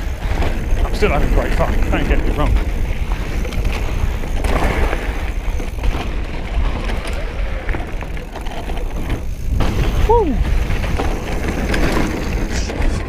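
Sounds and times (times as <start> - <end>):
bike rattling over bumps: 0.0 - 13.0
bike tyres rolling on dirt: 0.0 - 13.0
wind buffeting microphone: 0.0 - 13.0.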